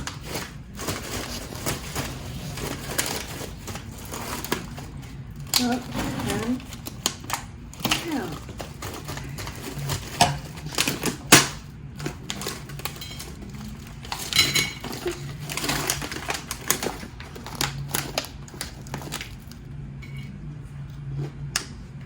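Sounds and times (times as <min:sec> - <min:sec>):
crackers crunching: 0:00.0 - 0:20.0.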